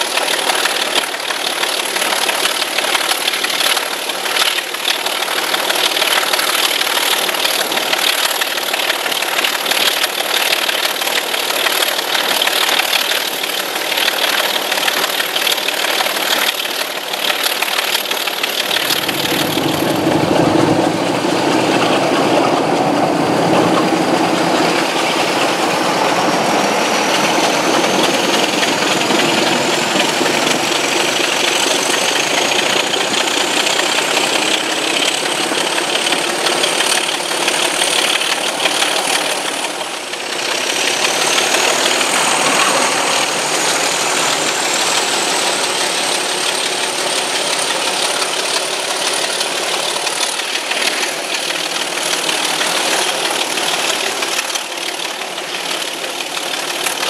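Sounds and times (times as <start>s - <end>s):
diesel locomotive engine: 0.0s - 57.0s
wheels on rails: 0.0s - 57.0s
wind: 0.0s - 57.0s.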